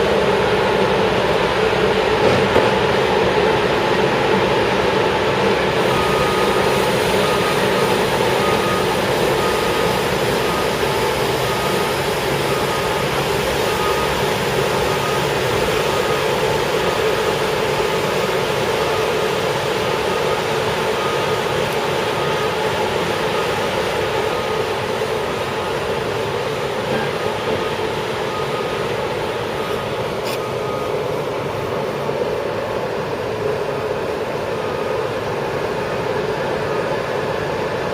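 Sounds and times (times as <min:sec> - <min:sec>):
paving machinery engine drone: 0:00.0 - 0:37.9
backup alarm beeps: 0:05.8 - 0:33.6, 0:34.4 - 0:37.8.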